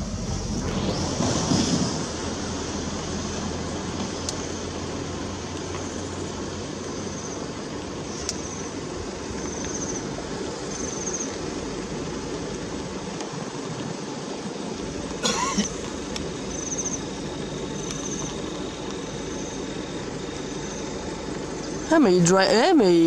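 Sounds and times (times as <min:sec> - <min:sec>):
insect chirping trills: 0:01.9 - 0:22.7.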